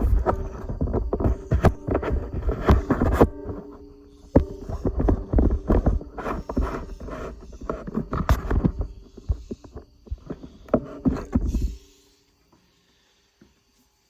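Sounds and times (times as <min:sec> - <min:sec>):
knocks and scrapes of tools: 0:00.0 - 0:11.9.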